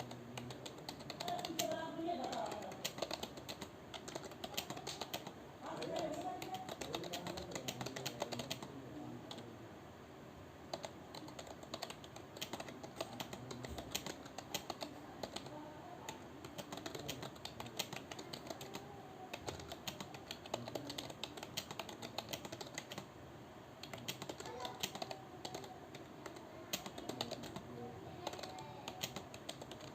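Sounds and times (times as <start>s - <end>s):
keyboard typing clicks: 0.0s - 8.7s, 10.7s - 23.1s, 23.8s - 27.6s, 28.2s - 29.9s.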